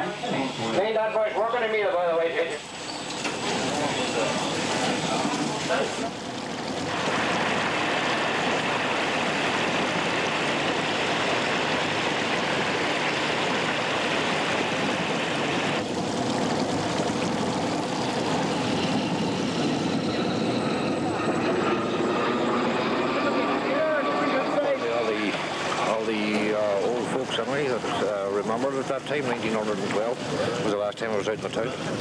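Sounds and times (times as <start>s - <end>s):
engine running: 2.6s - 30.6s.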